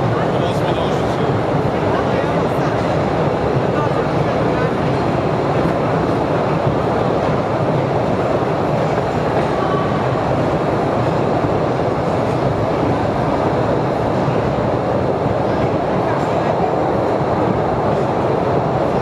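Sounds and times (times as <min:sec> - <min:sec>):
train running along track: 0:00.0 - 0:19.0.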